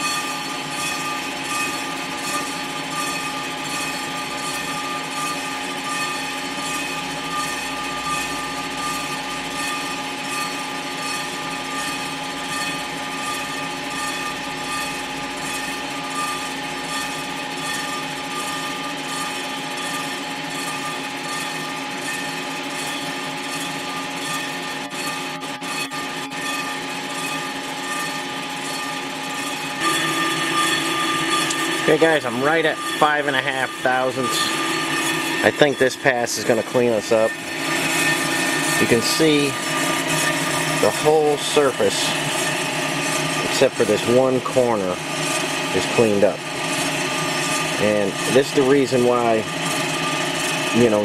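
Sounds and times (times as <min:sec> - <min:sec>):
regular machine pulse: 0:00.0 - 0:51.0
surfacing machine hum and whine: 0:00.0 - 0:51.0.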